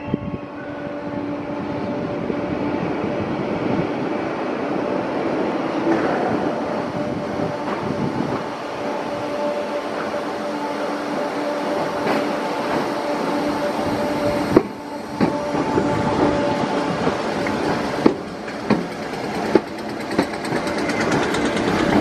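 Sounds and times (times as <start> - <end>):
electric train running: 0.8 - 22.0.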